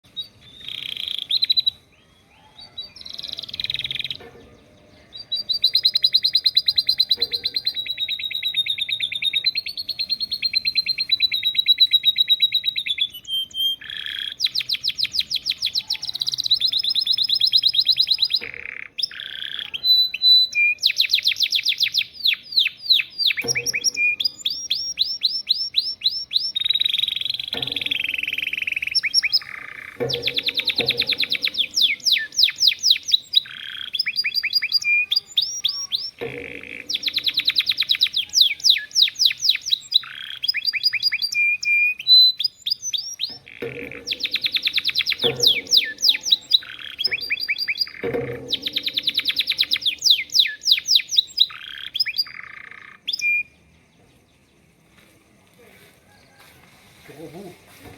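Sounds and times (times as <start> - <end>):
canary singing trills: 0.0 - 54.8.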